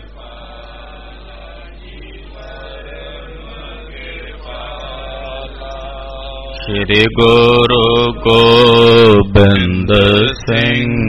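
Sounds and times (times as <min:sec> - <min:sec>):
devotional chanting with music: 0:00.0 - 0:11.0
steady low hum: 0:00.0 - 0:11.0.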